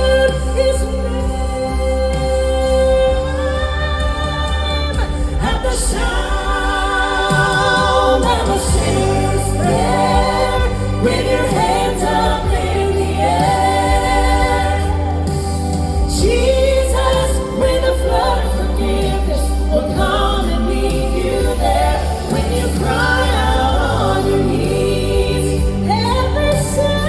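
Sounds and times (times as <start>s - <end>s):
instrumental accompaniment with bass: 0.0s - 27.0s
vocal group singing harmony: 0.0s - 27.0s.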